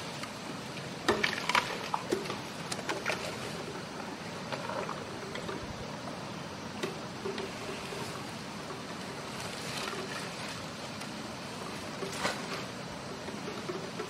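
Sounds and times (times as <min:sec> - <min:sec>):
rustling and crackling grass: 0:00.0 - 0:14.0.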